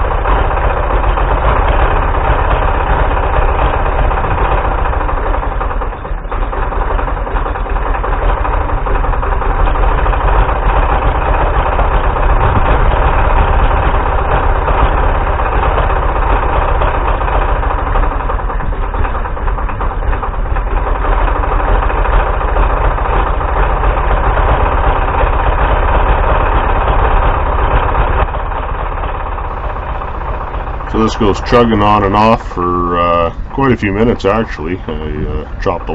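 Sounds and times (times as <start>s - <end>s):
diesel engine chugging unevenly: 0.0s - 35.9s.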